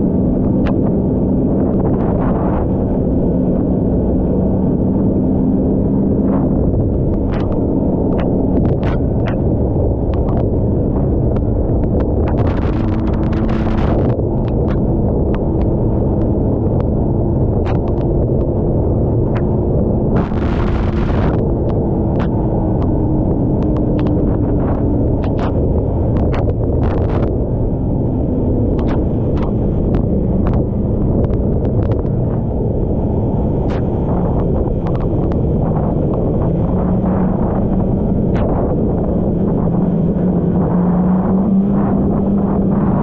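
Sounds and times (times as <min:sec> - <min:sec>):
snowmobile engine drone: 0:00.0 - 0:43.0
wind rumble on microphone: 0:00.0 - 0:43.0.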